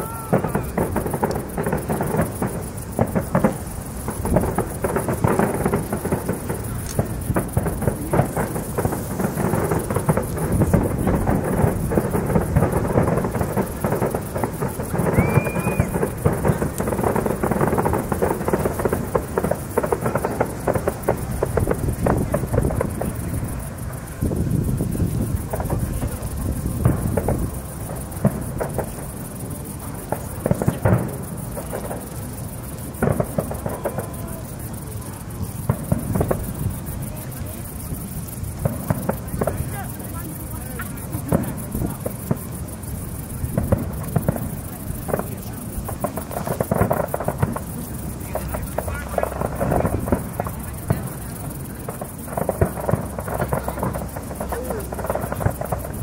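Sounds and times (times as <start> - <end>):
fireworks booms and bangs: 0.0 - 56.0
rising firework whistle: 0.0 - 56.0.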